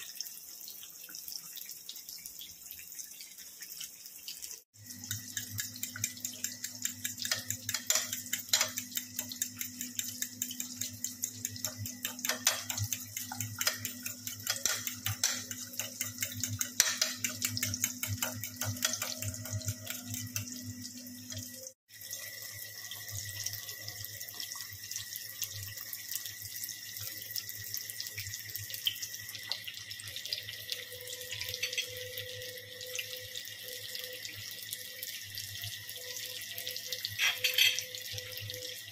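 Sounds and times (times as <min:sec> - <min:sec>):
patties sizzling in oil: 0:00.0 - 0:38.9.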